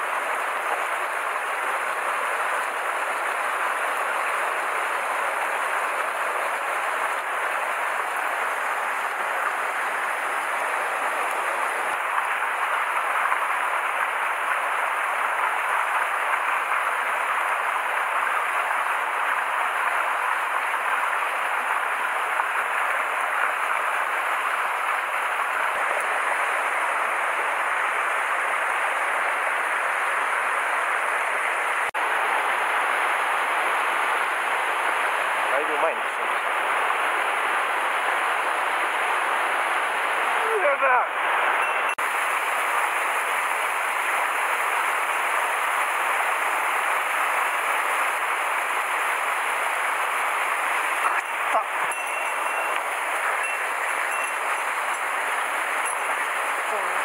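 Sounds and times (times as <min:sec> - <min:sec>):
stream running over boulders: 0:00.0 - 0:57.0.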